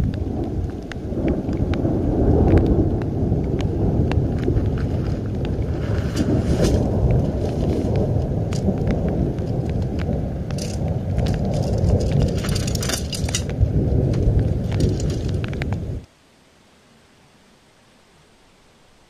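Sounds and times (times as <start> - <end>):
wind buffeting microphone: 0.0 - 16.1
heavy rain: 0.0 - 19.0.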